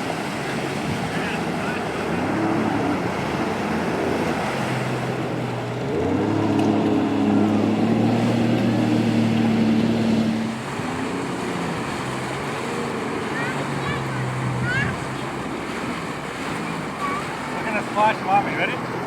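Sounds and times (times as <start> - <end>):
jet ski engine running: 0.0 - 19.0
rushing water and wind: 0.0 - 19.0.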